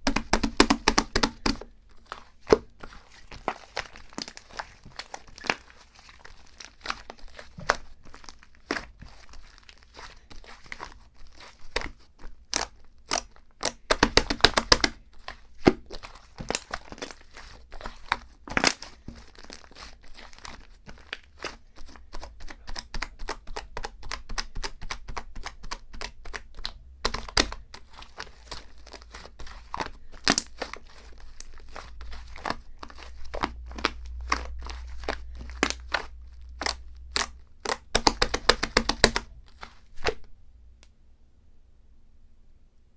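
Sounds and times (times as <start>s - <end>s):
packaging crinkling: 0.0s - 40.3s
packaging tearing: 0.1s - 22.0s, 26.2s - 40.3s.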